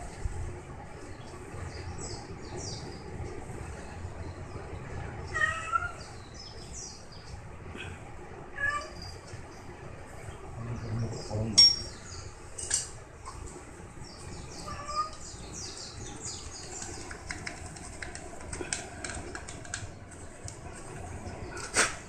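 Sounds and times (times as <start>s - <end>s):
small birds chirping: 0.9s - 8.0s, 8.8s - 12.6s, 13.2s - 22.0s.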